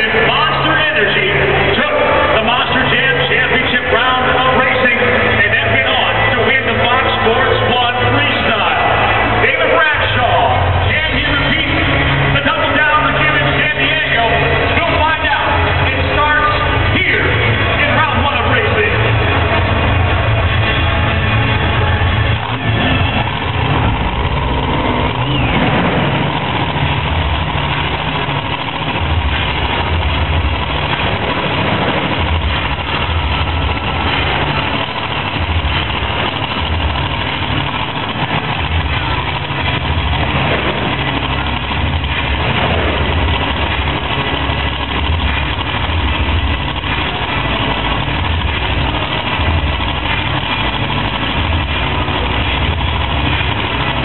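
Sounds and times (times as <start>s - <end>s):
monster truck engine idling: 0.0s - 54.0s.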